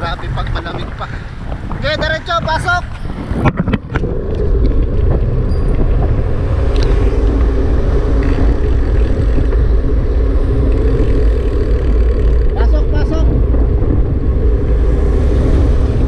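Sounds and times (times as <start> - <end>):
vehicle rumbling along road: 0.0 - 16.0.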